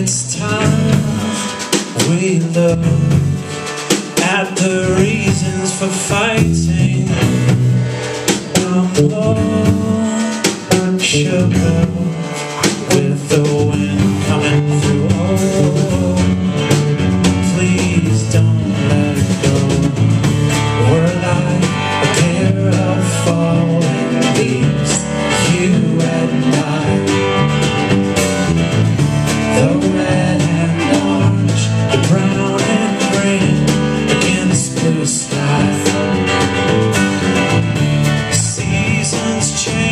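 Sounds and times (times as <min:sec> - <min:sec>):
acoustic guitar: 0:00.0 - 0:39.9
drum kit: 0:00.0 - 0:39.9
electric guitar: 0:00.0 - 0:39.9.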